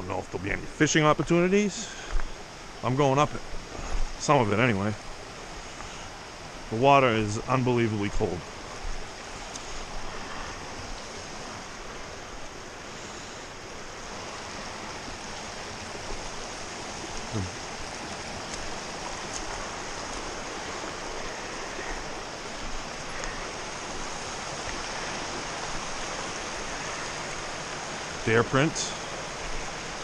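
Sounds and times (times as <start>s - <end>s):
brook flowing over stones: 0.0s - 30.0s.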